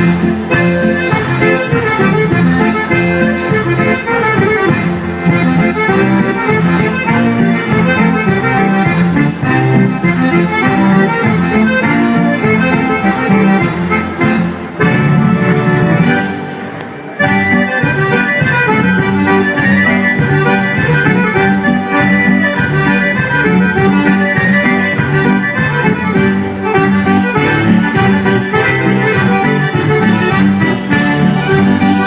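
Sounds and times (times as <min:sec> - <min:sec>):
folk dance music: 0:00.0 - 0:32.0.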